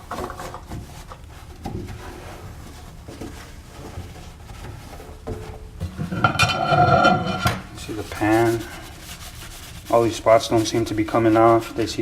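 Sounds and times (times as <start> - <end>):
low steady background noise: 0.0 - 12.0
soft scrapes: 1.4 - 12.0.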